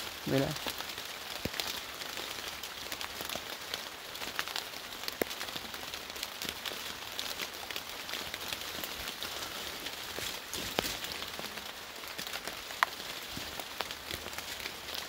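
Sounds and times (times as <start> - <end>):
rain drops ticking: 0.0 - 15.0
rain on wet foliage: 0.0 - 15.0.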